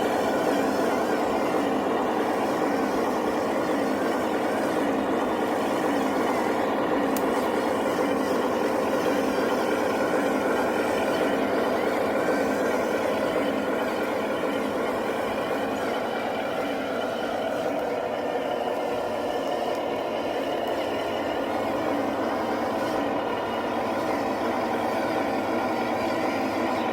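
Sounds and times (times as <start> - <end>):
model truck motor drone: 0.0 - 26.9.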